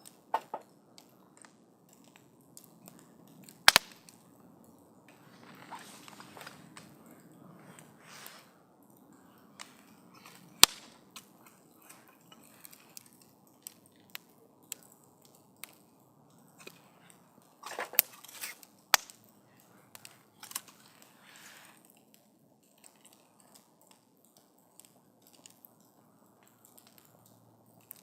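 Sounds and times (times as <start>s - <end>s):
campfire crackling and popping: 0.0s - 28.0s
low hiss of fire: 0.0s - 28.0s.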